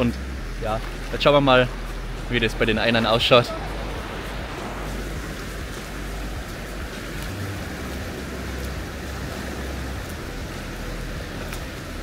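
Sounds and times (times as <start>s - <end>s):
rushing water: 0.0s - 12.0s
wind rumbling on microphone: 0.0s - 12.0s.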